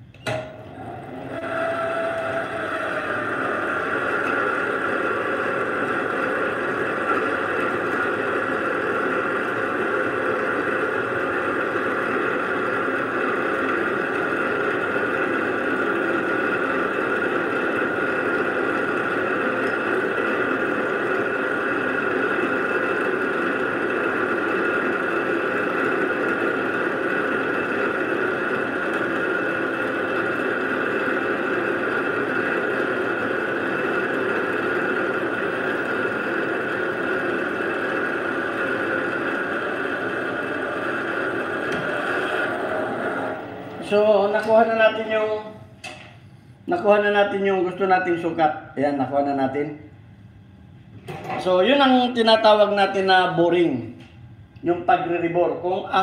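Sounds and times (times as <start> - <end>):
metal lathe whining: 0.0 - 47.2.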